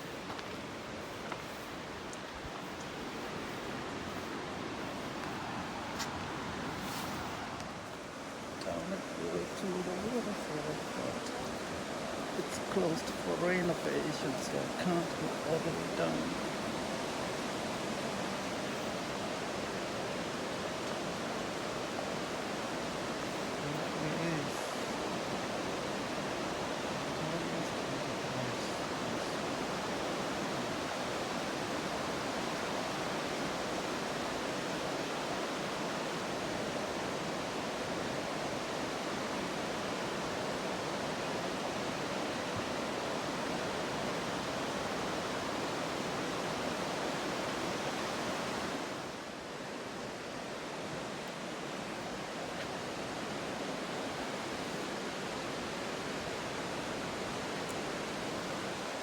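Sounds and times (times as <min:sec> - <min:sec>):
large waterfall roaring: 0:00.0 - 0:59.0.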